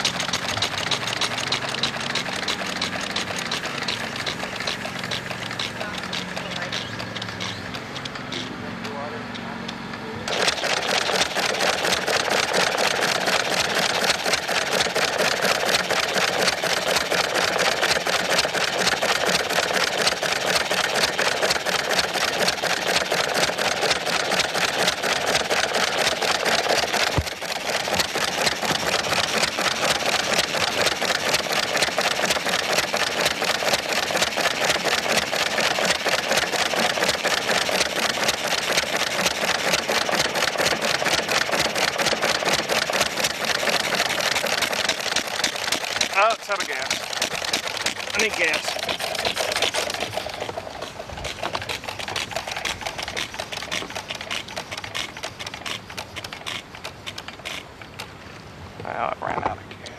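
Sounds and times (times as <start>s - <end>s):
stationary engine clattering: 0.0s - 58.2s.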